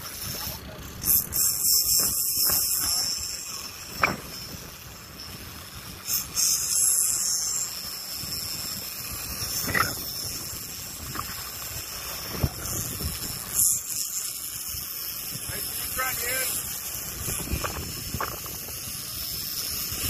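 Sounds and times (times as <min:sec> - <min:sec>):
hiss: 0:00.0 - 0:20.0
water washing along hull: 0:00.0 - 0:20.0
wind on microphone: 0:00.0 - 0:20.0.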